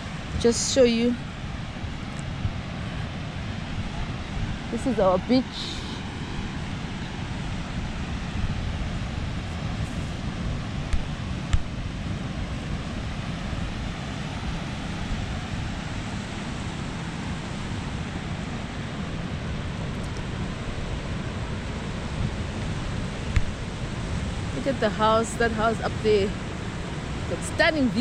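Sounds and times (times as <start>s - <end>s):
surf washing: 0.0s - 28.0s
wind buffeting microphone: 0.0s - 28.0s.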